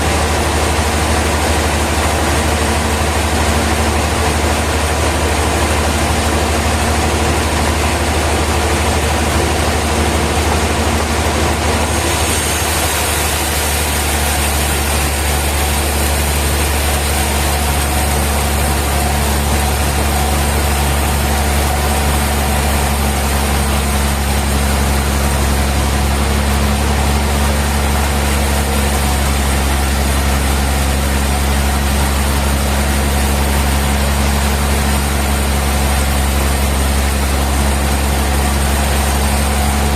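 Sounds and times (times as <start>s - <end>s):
sawmill machinery deep hum: 0.0s - 39.9s.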